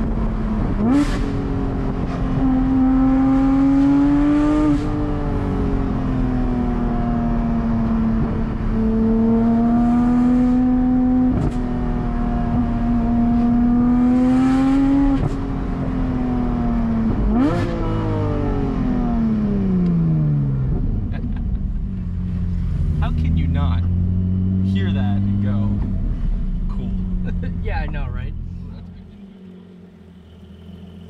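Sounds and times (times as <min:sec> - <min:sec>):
car engine revving in cabin: 0:00.0 - 0:31.0.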